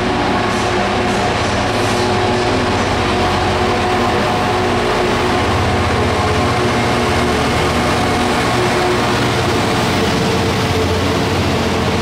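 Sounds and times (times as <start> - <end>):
locomotive diesel engine drone: 0.0 - 12.0.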